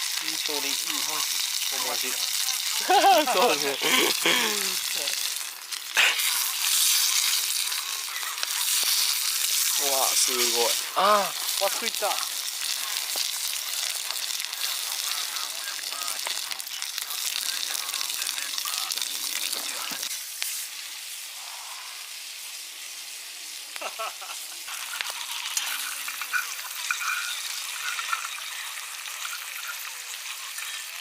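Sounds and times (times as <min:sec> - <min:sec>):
cooking sizzle over a fire: 0:00.0 - 0:31.0
fire crackles and pops: 0:00.0 - 0:31.0.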